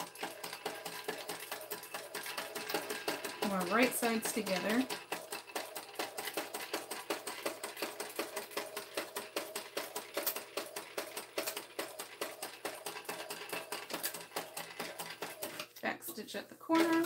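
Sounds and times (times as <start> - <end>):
sewing machine stitching: 0.0 - 17.0.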